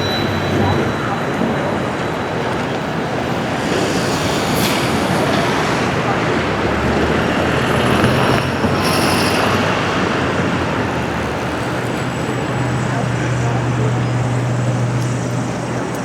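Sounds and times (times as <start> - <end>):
road traffic noise: 0.0 - 16.0
vehicle engine low hum: 0.6 - 16.0.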